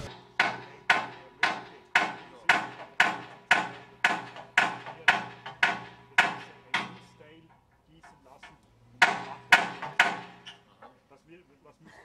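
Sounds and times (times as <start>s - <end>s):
hammer striking metal: 0.0s - 11.0s.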